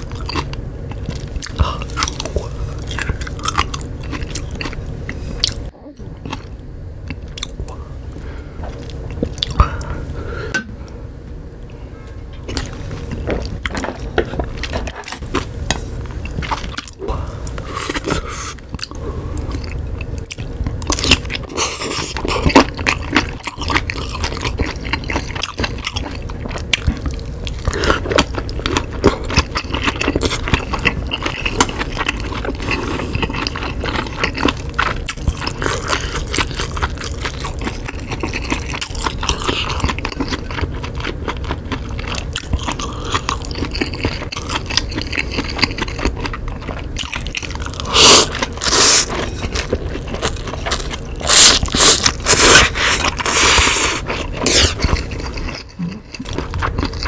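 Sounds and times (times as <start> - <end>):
person chewing noodles: 0.0 - 10.6, 12.1 - 57.0.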